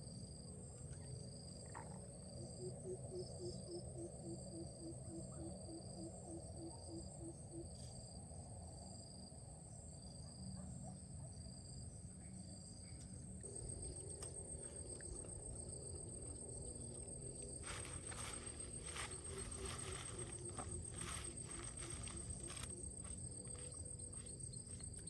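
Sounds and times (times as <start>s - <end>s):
insects trilling: 0.0s - 9.3s, 11.7s - 25.0s
low background hum: 0.0s - 25.0s.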